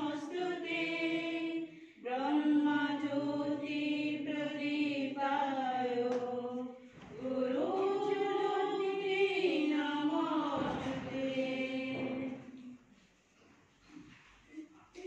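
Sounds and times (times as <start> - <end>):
voices chanting in unison: 0.0 - 12.7.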